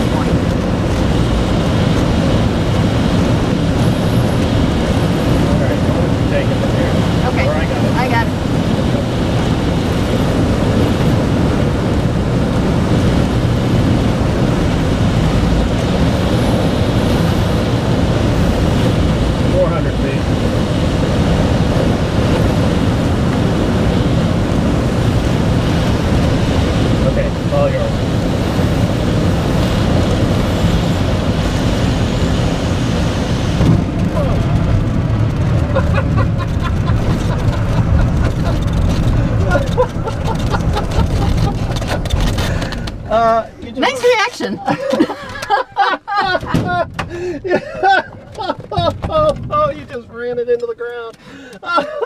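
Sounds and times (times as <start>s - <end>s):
air rushing over glider canopy: 0.0s - 50.6s.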